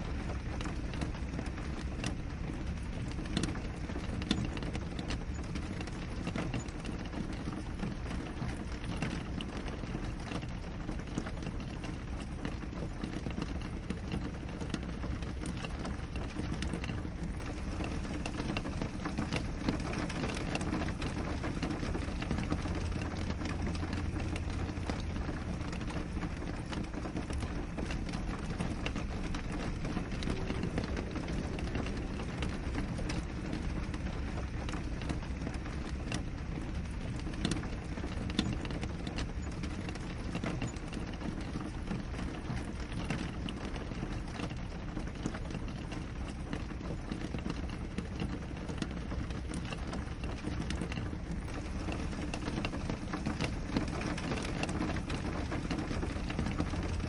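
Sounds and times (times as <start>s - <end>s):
rain on window glass: 0.0s - 57.0s.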